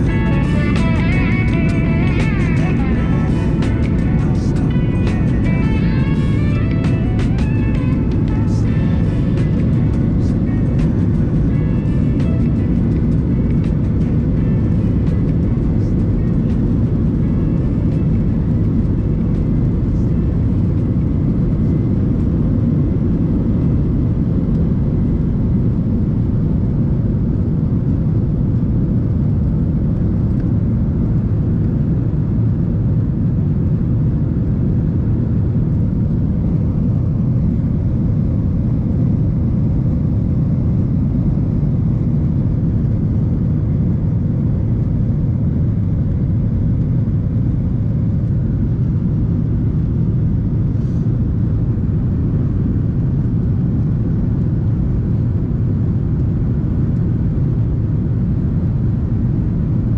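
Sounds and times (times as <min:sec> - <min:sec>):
jet airliner cabin rumble: 0:00.0 - 0:59.9.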